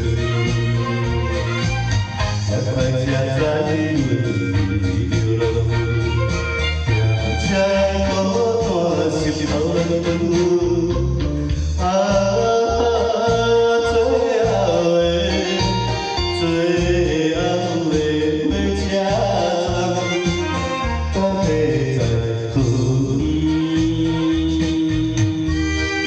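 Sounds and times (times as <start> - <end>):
pop ballad with pulsing bass: 0.0 - 26.0.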